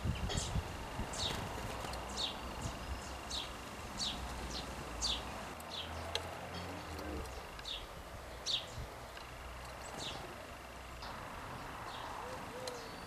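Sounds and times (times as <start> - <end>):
low rumble of wind: 0.0 - 13.0
songbird calling: 0.0 - 13.0.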